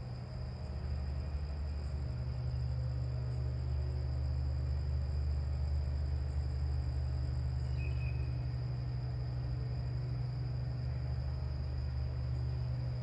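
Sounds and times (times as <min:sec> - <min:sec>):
cricket trill: 0:00.0 - 0:13.0.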